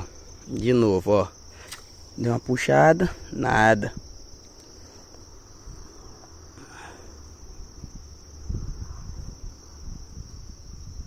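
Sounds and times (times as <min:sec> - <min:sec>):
crickets chirping: 0:00.0 - 0:11.0
low rumbling noise: 0:00.0 - 0:11.0.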